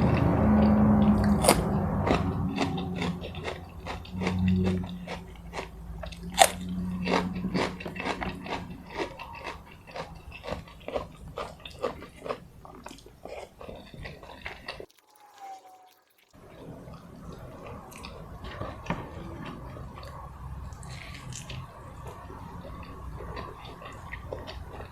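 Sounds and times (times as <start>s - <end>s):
low steady hum: 0.0s - 14.9s, 16.4s - 24.9s
chewing and crunching food: 0.0s - 24.9s.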